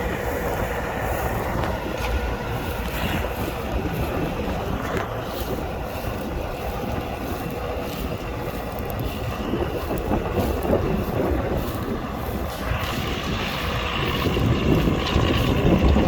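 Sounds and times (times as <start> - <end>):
tractor diesel engine under load: 0.0 - 16.0
wind buffeting microphone: 0.0 - 16.0.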